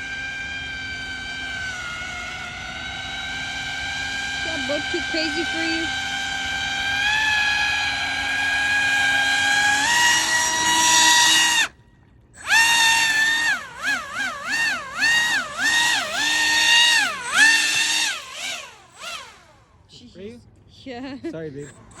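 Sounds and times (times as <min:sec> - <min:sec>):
rc airboat motor whining: 0:00.0 - 0:22.0.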